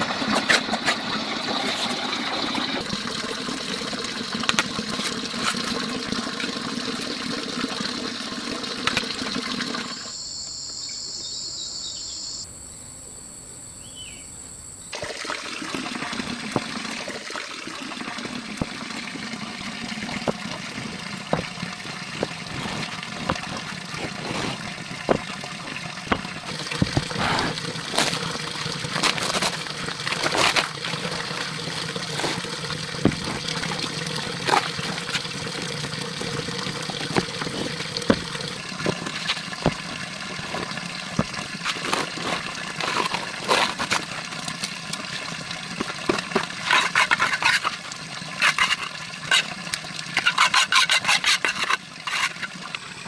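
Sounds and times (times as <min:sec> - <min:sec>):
water running and trickling: 0:00.0 - 0:10.3, 0:14.9 - 0:53.0.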